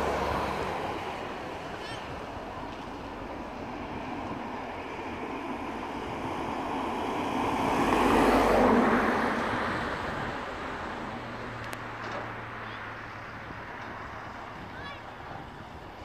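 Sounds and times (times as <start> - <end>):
motor vehicle passing: 0.0 - 15.5.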